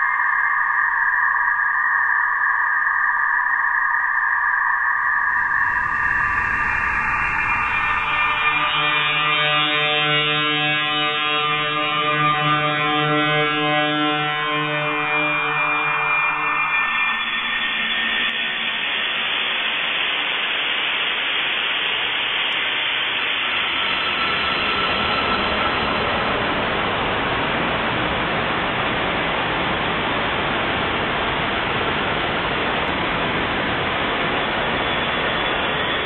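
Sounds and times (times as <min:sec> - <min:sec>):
loud static hiss: 0:05.4 - 0:36.0.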